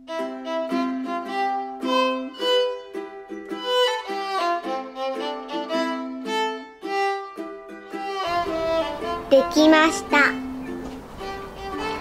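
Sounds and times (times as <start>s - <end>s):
violin playing quick tune: 0.1s - 12.0s.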